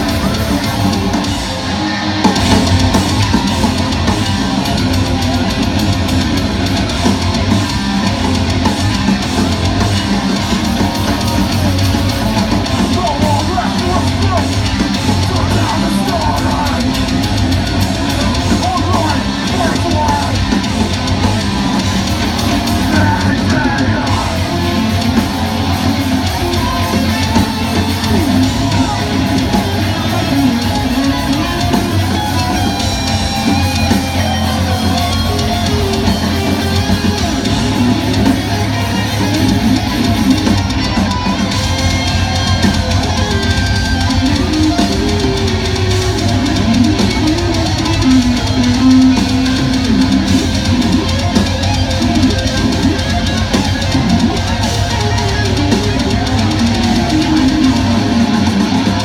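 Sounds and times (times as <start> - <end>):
heavy metal band playing: 0.0 - 59.0.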